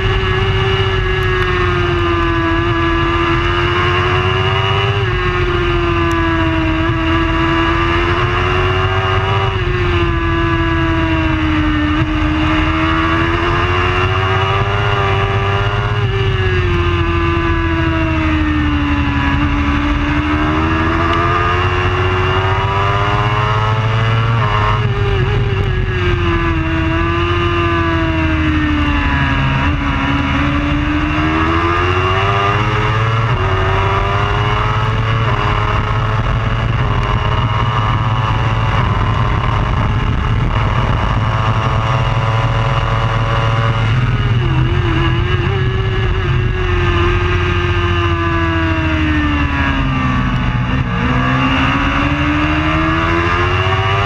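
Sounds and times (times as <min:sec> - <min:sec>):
motorbike engine revving high: 0:00.0 - 0:54.0.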